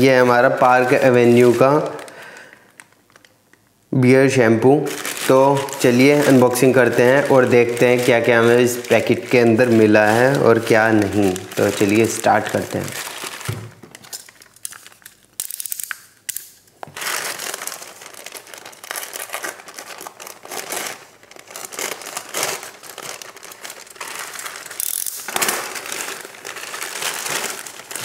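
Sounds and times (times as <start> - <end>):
plastic bag crinkling: 0.0 - 28.0
plastic tearing: 4.8 - 28.0.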